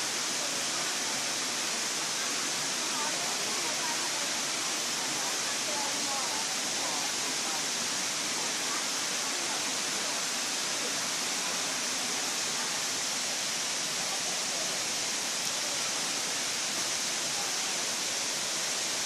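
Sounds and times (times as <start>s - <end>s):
waterfall rushing and splashing: 0.0s - 19.0s.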